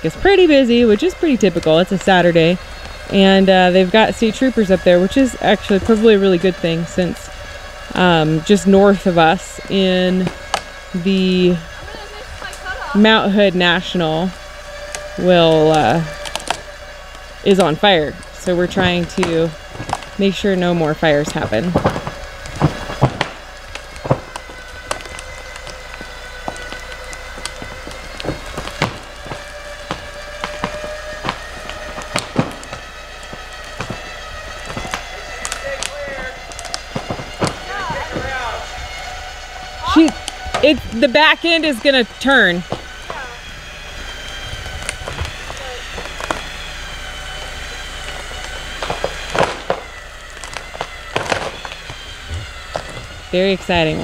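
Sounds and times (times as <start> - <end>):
winch whine: 0.0 - 54.0
wood cracking and snapping: 0.0 - 54.0.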